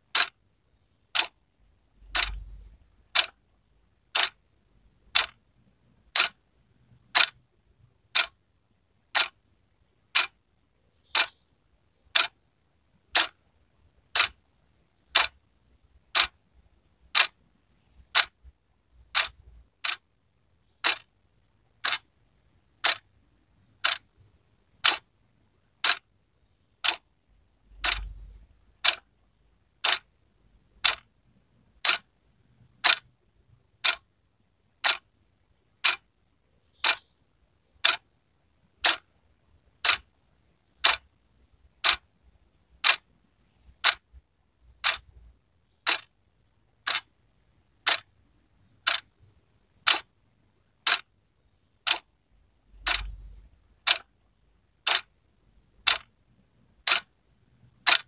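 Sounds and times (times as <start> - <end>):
wall clock ticking: 0.0 - 1.4, 2.0 - 7.5, 8.1 - 8.4, 9.0 - 9.4, 10.0 - 12.4, 13.0 - 30.1, 30.7 - 34.1, 34.7 - 36.1, 36.7 - 42.1, 42.7 - 46.2, 46.8 - 47.1, 47.7 - 50.2, 50.8 - 51.2, 51.8 - 52.1, 52.7 - 55.1, 55.7 - 58.0.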